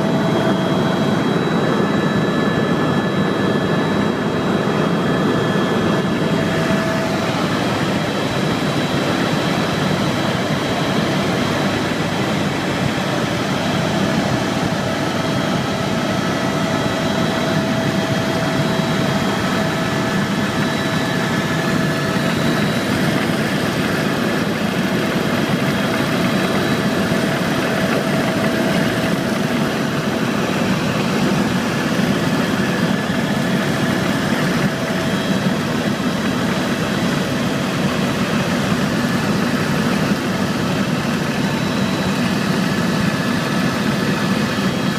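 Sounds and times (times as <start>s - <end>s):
helicopter engine and rotors: 0.0s - 44.9s
high turbine whine: 0.0s - 44.9s.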